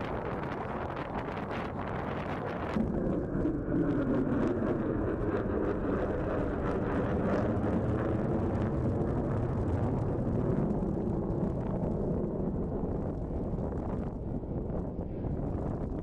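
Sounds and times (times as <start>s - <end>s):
jet engine flying overhead: 0.0s - 16.0s.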